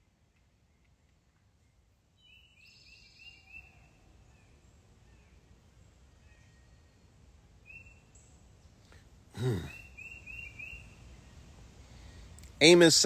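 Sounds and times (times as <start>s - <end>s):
faint bird chirps: 0.0s - 12.3s.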